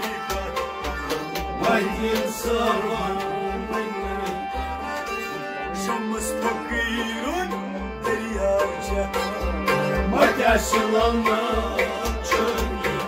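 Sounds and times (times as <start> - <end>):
long held instrumental tones: 0.0 - 13.0
man singing: 0.0 - 13.0.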